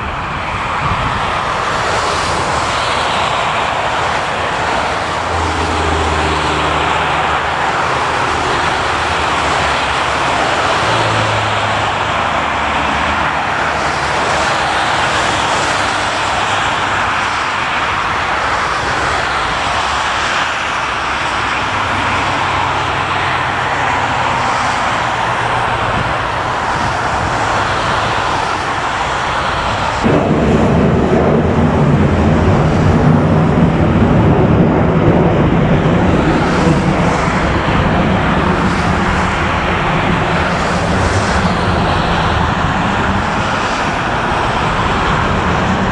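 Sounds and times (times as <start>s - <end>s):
deep aircraft engine rumble: 0.0s - 45.9s
jet engines roaring: 0.0s - 45.9s.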